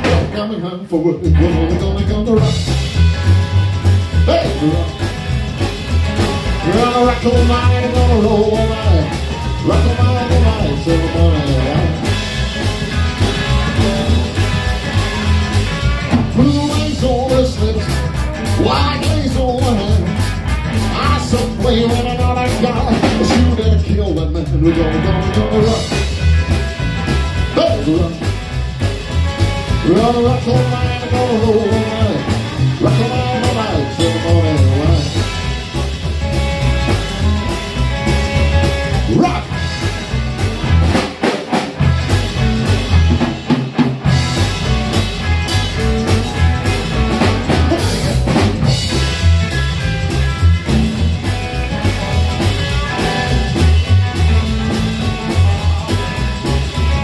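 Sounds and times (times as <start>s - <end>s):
rock and roll band playing: 0.0s - 57.0s.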